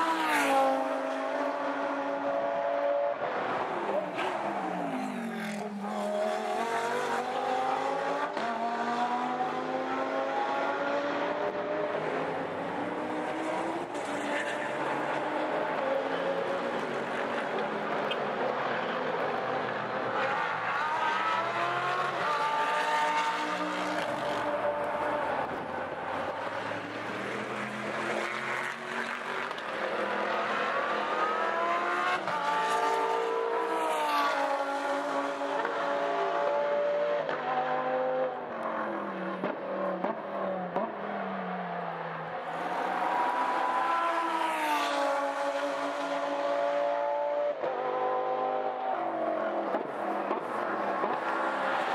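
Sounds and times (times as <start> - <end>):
race cars accelerating past: 0.0 - 51.9.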